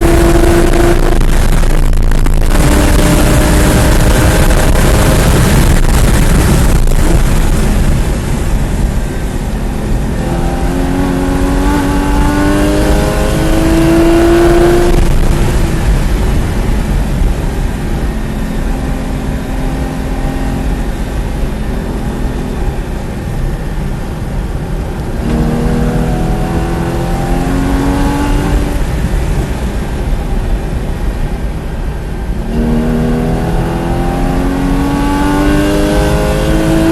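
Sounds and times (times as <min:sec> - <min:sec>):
sports car engine revving: 0:00.0 - 0:29.4, 0:32.4 - 0:36.9.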